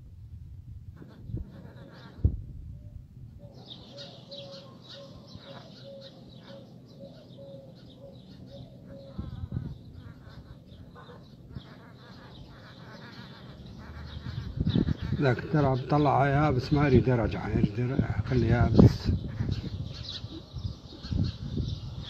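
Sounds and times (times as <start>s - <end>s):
birds chirping: 1.0s - 22.0s.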